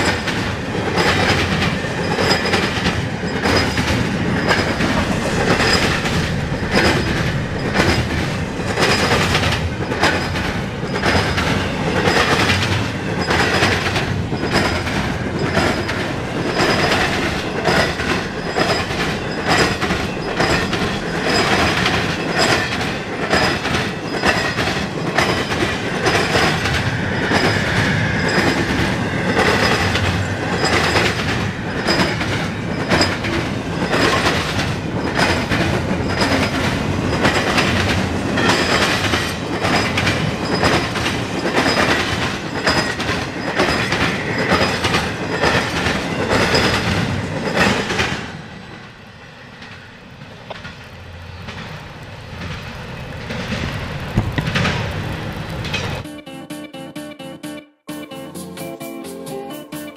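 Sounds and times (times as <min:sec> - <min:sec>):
wheels clattering over rail joints: 0:00.0 - 0:48.4, 0:49.6 - 0:56.0
train rumble: 0:00.0 - 0:56.1.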